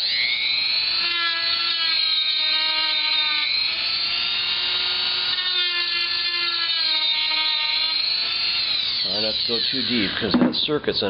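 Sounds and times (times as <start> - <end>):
rotary tool whining: 0.0 - 10.5.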